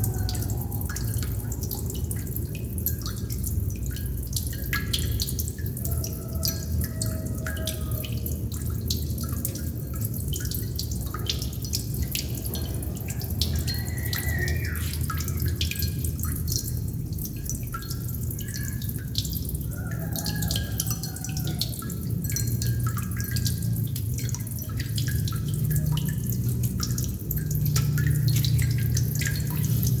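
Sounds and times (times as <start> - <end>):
water droplets dripping: 0.0 - 30.0.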